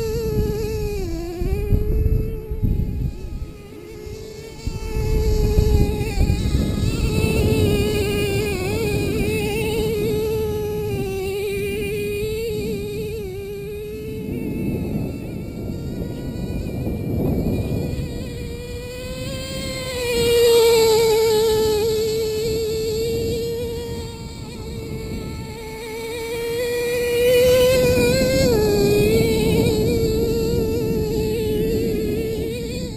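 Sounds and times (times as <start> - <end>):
small two-stroke engine buzzing: 0.0 - 32.9.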